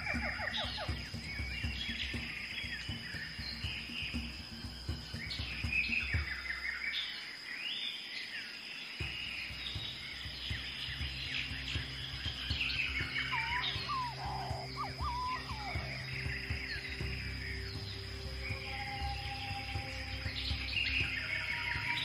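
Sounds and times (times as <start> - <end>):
drum-like background music: 0.0 - 7.2, 9.0 - 22.0
birds chirping and trilling: 0.0 - 22.0.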